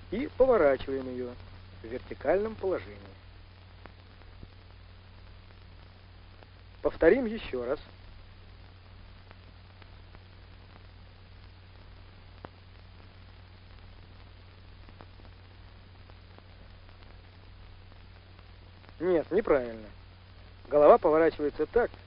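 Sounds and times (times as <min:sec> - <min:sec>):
film soundtrack hiss and hum: 0:00.0 - 0:22.0
faint clicks: 0:00.9 - 0:06.8, 0:07.8 - 0:20.8.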